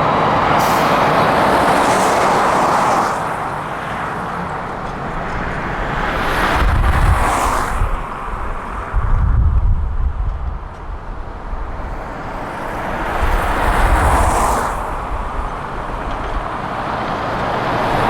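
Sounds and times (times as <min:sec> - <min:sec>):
construction machinery engines: 0:00.0 - 0:07.1, 0:10.2 - 0:18.0.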